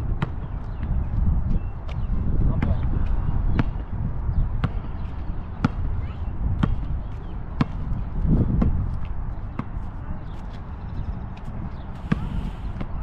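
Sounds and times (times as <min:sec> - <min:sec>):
basketball bouncing on asphalt: 0:00.0 - 0:10.0, 0:11.3 - 0:13.0.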